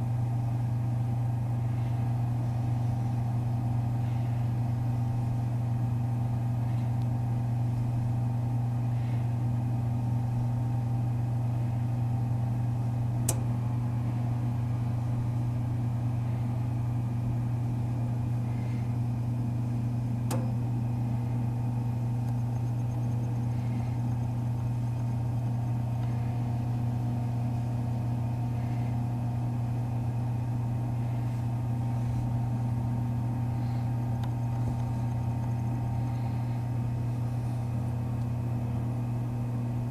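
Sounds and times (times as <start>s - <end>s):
toaster oven humming: 0.0s - 39.9s.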